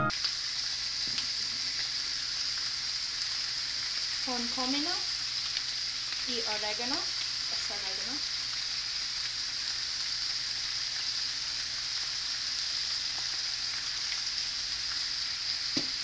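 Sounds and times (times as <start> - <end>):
beef sizzling in hot oil: 0.0 - 16.0.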